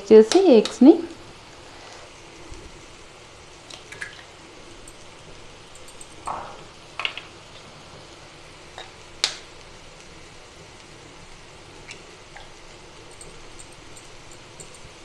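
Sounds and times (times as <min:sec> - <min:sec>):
mushrooms sizzling in a pan: 0:00.0 - 0:15.0.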